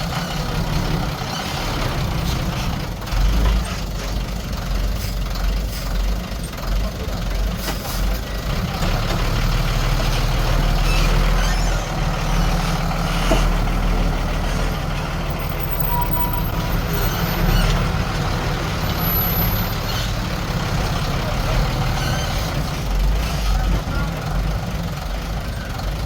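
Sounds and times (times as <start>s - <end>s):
diesel machinery engine rumble: 0.0s - 26.0s.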